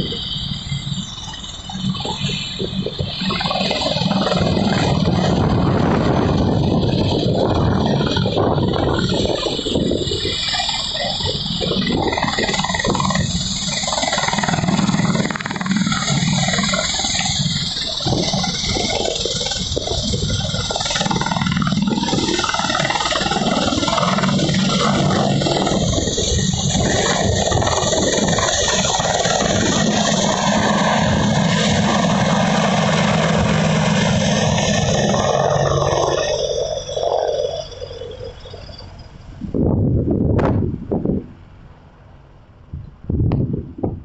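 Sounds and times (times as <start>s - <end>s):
helicopter engines and rotor: 0.0s - 44.0s.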